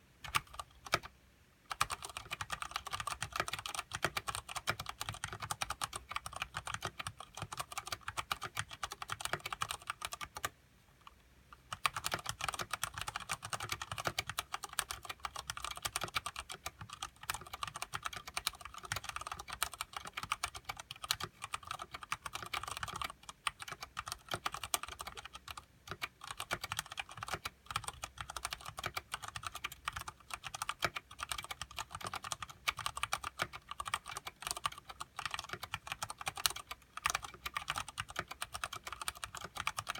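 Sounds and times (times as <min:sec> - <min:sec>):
mechanical keyboard typing: 0:00.2 - 0:01.1, 0:01.7 - 0:39.9.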